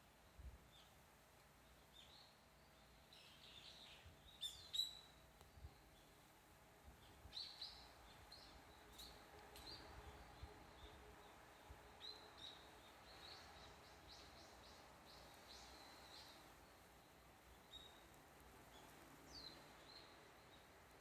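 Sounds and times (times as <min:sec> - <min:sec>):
faint background hiss: 0:00.0 - 0:21.0
small birds chirping: 0:00.2 - 0:21.0.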